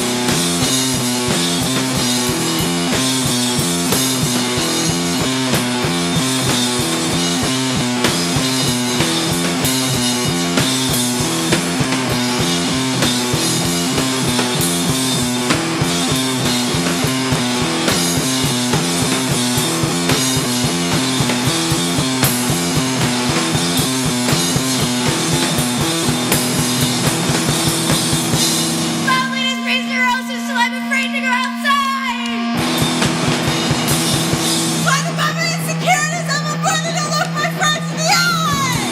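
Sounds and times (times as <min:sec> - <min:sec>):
distorted electric guitar: 0:00.0 - 0:38.9
pounding drum kit: 0:00.0 - 0:38.9.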